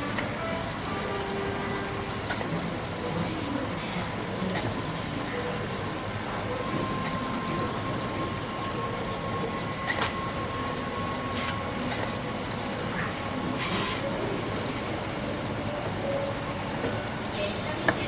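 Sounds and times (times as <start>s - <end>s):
oil pump humming with whine: 0.0s - 18.0s.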